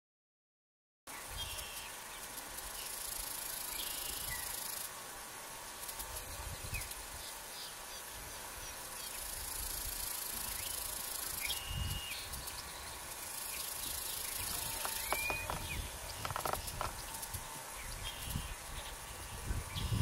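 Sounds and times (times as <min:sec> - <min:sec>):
high insect buzz: 0:01.2 - 0:20.0.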